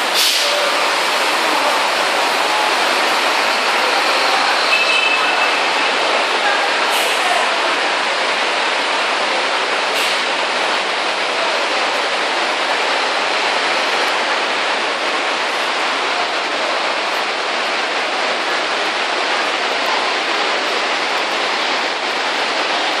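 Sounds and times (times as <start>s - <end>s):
rushing river water: 0.0s - 23.0s.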